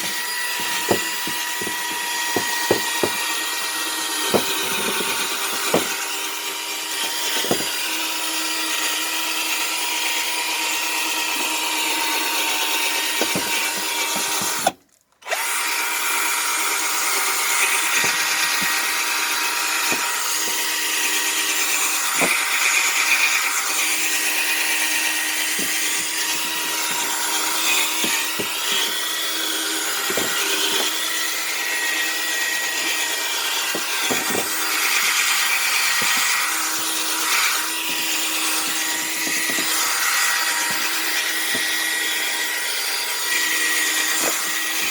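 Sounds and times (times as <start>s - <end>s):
power drill running: 0.0s - 44.9s.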